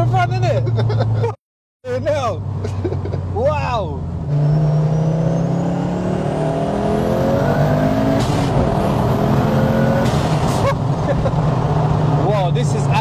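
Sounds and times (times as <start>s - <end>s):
car engine accelerating: 1.9s - 13.0s.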